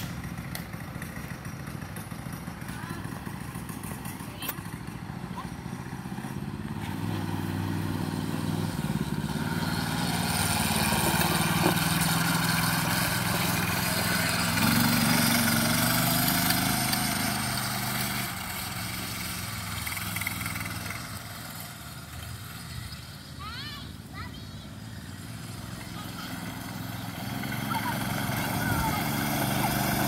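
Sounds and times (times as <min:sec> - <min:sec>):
go-kart engine running: 0:00.0 - 0:30.0.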